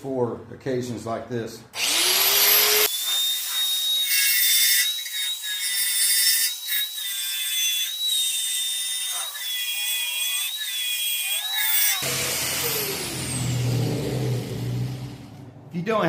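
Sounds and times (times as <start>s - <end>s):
power tool motor whining: 1.8s - 15.2s
hissing metal cutting: 1.8s - 15.4s.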